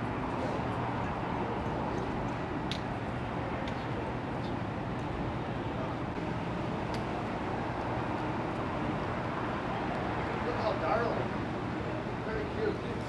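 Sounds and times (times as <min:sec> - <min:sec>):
street noise rumble: 0:00.0 - 0:13.0.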